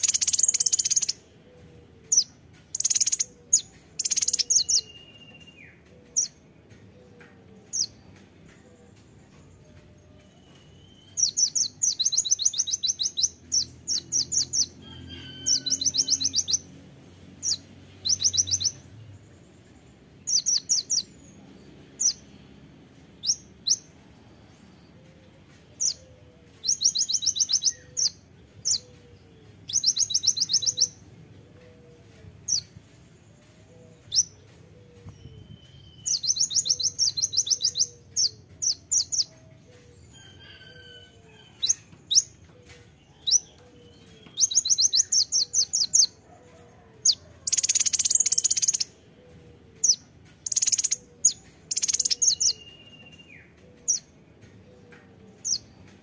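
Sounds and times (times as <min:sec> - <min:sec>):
bird song trills: 0:00.0 - 0:16.8, 0:17.4 - 0:22.6, 0:23.2 - 0:46.2, 0:47.1 - 0:56.0.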